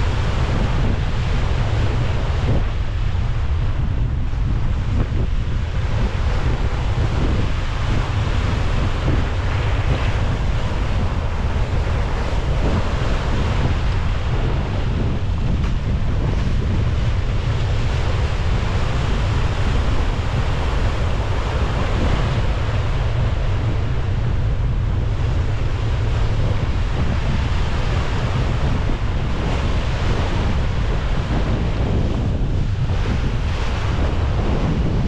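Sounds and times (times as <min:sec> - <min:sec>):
sea water rushing at bow: 0:00.0 - 0:35.0
wind rumbling on microphone: 0:00.0 - 0:35.0.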